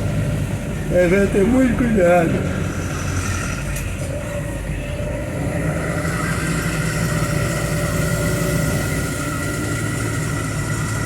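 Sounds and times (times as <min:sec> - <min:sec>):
road hiss: 0:00.0 - 0:11.0
vehicle engine running: 0:00.0 - 0:11.0.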